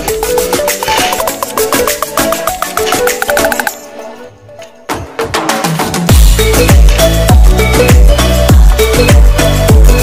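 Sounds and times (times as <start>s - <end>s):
upbeat instrumental music: 0.0s - 10.0s.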